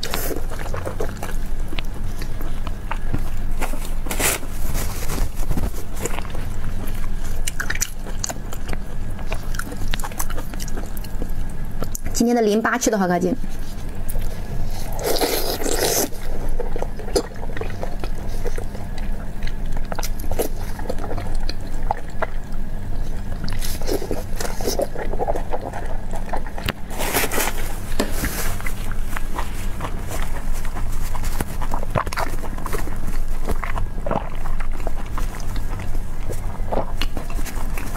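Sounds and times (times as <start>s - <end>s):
wet chewing and slurping: 0.0s - 12.2s, 13.4s - 37.9s.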